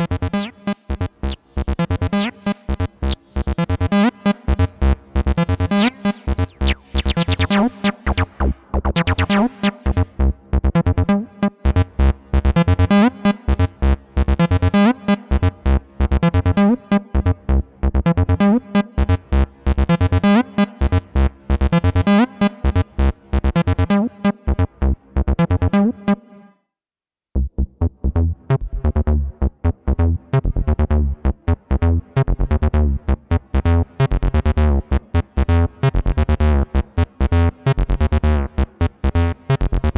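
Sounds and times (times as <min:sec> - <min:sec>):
acid bassline synth: 0:00.0 - 0:26.3, 0:27.4 - 0:39.9.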